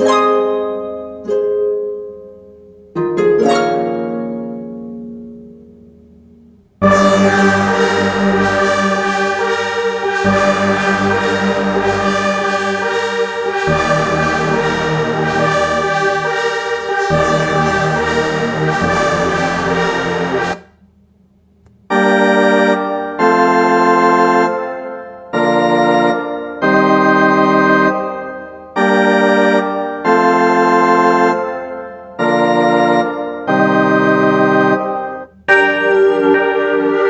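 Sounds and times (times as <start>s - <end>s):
organ-like keyboard chords: 0.0s - 20.7s, 21.8s - 37.0s
r and b music: 0.0s - 20.9s, 21.8s - 37.0s.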